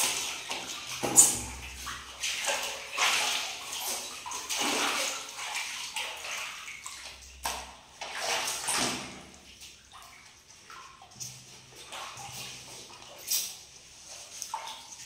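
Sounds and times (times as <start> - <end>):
water splashing in a bath: 0.0 - 15.0.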